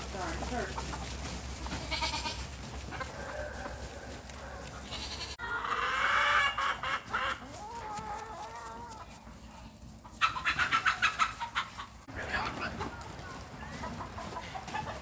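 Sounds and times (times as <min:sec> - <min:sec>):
chickens clucking and squawking: 0:00.0 - 0:15.0.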